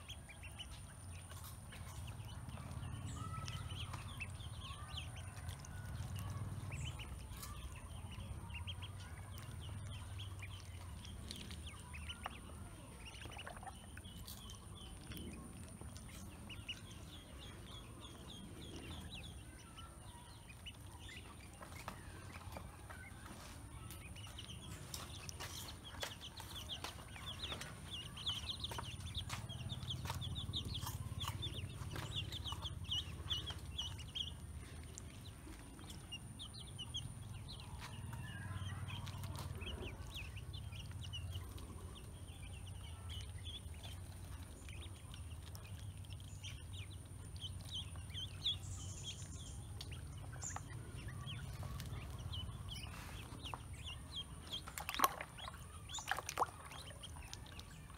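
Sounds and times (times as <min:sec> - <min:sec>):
ducklings and chick peeping: 0:00.0 - 0:57.9
steady low rumble: 0:00.0 - 0:57.9.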